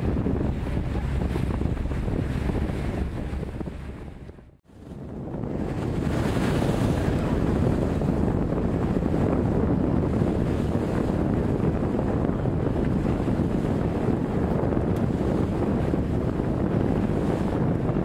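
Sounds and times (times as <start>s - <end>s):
water rushing along hull: 0.0s - 18.0s
wind buffeting microphone: 0.0s - 18.0s.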